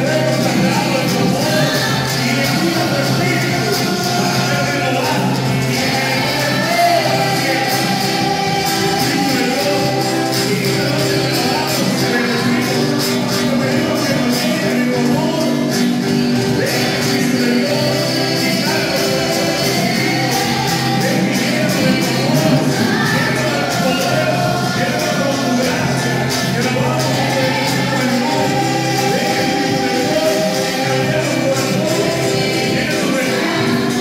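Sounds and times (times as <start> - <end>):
congregation singing: 0.0 - 34.0
rhythmic shaking percussion: 0.0 - 34.0.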